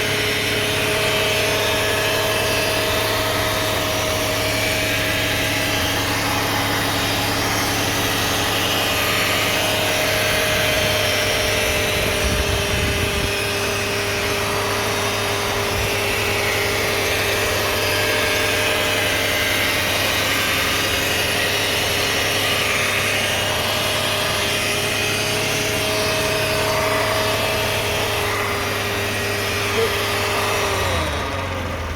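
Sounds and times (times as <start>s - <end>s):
car engine running steadily: 0.0s - 31.9s
transmission whine: 0.0s - 31.9s.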